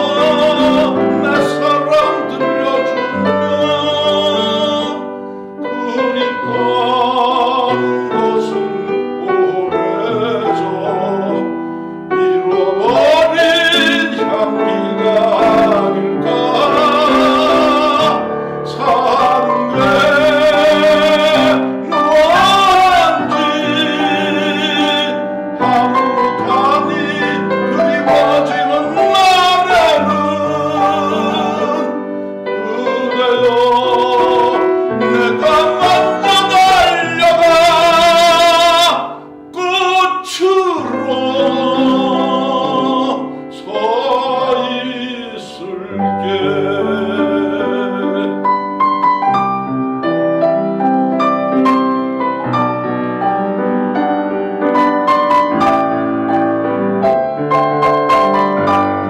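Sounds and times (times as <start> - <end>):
man singing with vibrato: 0.0 - 50.1, 54.4 - 59.0
grand piano: 0.0 - 59.0.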